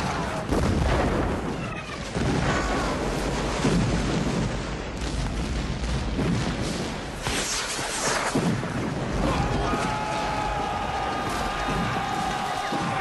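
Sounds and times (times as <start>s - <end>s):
cannon fire: 0.0s - 13.0s
explosions: 0.0s - 13.0s
gunfire: 0.0s - 13.0s.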